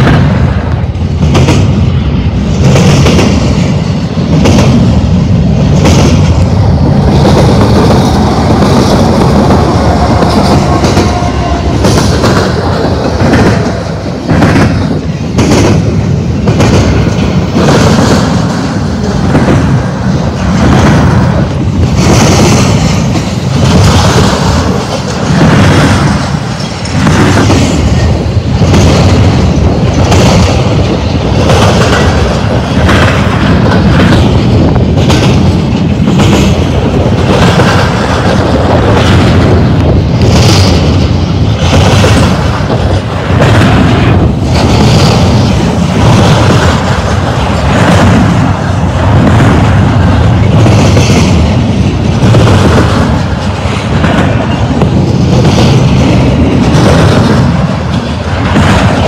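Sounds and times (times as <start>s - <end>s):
steel wheels rumbling on rail: 0.0s - 59.0s
wheels clacking over rail joint: 5.7s - 59.0s.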